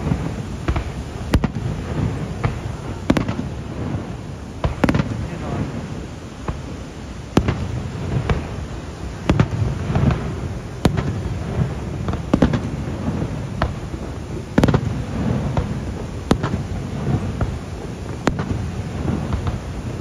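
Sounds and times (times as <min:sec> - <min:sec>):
fireworks shells bursting: 0:00.0 - 0:20.0.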